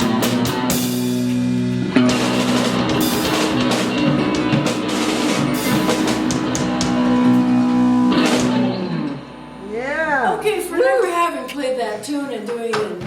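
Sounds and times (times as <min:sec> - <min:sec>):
rock band playing: 0:00.0 - 0:11.9.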